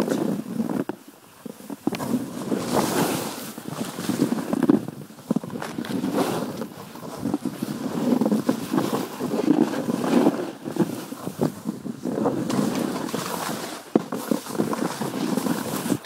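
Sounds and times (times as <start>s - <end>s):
snowboard sliding through snow: 0.0s - 16.0s
wind noise on microphone: 0.0s - 16.0s.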